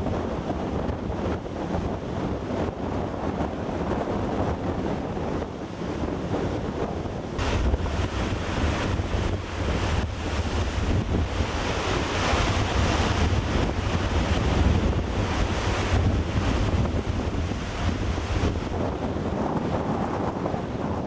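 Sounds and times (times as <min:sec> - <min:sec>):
storm surf breaking: 0:00.0 - 0:21.0
wind buffeting microphone: 0:00.0 - 0:21.0.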